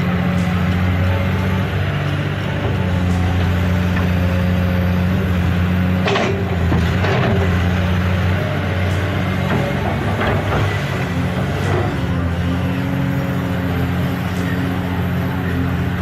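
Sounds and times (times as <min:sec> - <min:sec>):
construction vehicle engine drone: 0:00.0 - 0:16.0.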